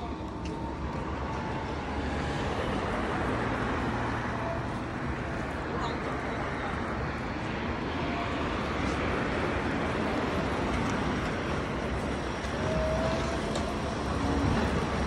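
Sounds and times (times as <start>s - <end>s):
vehicle and road noise: 0.0s - 15.0s.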